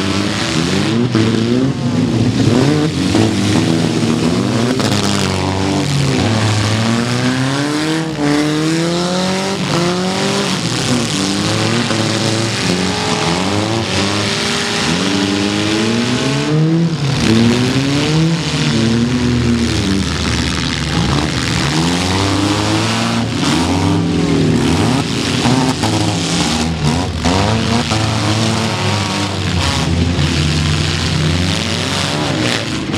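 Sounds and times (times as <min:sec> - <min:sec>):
car engines revving: 0:00.0 - 0:32.9.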